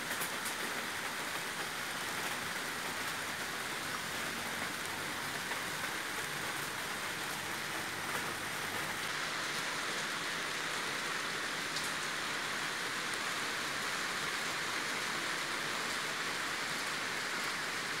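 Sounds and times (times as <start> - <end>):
rain falling on trees: 0.0 - 18.0.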